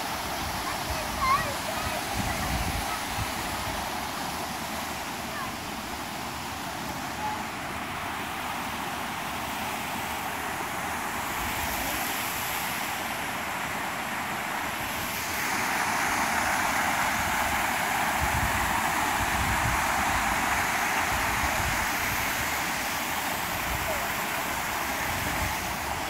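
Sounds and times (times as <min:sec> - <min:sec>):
water rushing over weirs: 0:00.0 - 0:26.0.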